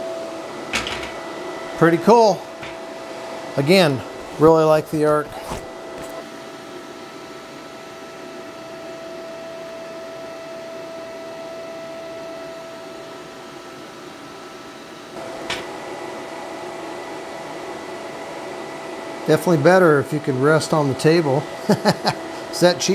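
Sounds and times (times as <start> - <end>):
steady whine: 0.0 - 22.9
welder cooling fan humming: 0.0 - 22.9.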